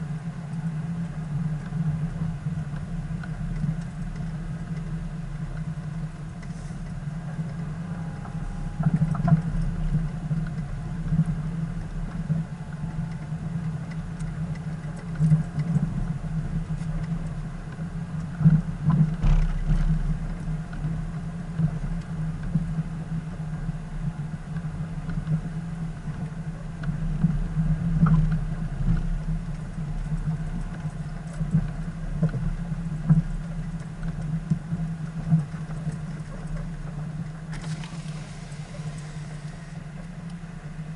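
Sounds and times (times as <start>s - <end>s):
car engine humming: 0.0s - 25.6s, 26.2s - 40.9s.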